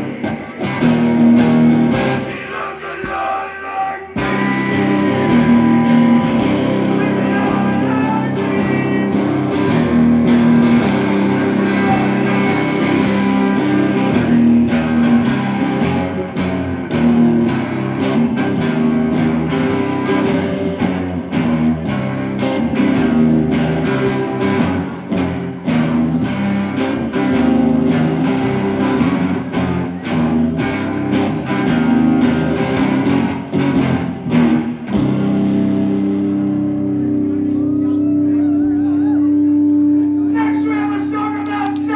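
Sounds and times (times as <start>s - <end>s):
electric guitars playing: 0.0s - 41.9s.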